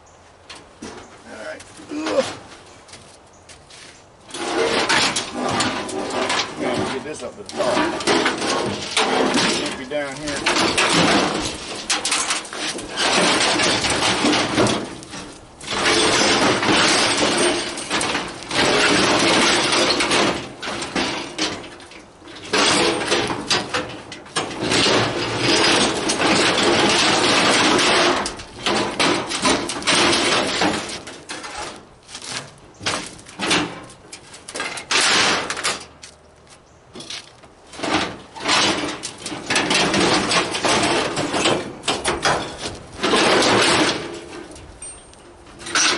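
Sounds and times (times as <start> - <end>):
metal clanks and knocks: 0.5 - 3.0, 4.3 - 36.0, 36.9 - 45.9
scrap metal scraping: 3.7 - 36.2, 37.0 - 45.9.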